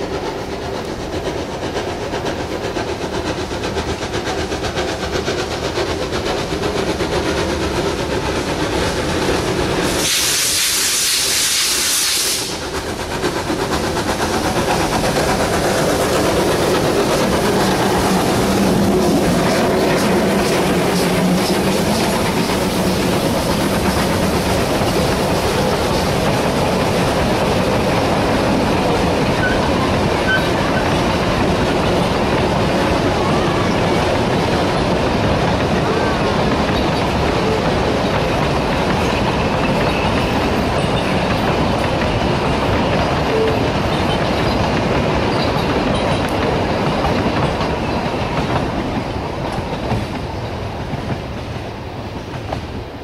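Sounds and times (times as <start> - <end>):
wheels clattering on rails: 0.0 - 11.4, 12.3 - 53.0
loud hissing steam: 0.0 - 53.0
steam locomotives running: 0.0 - 53.0.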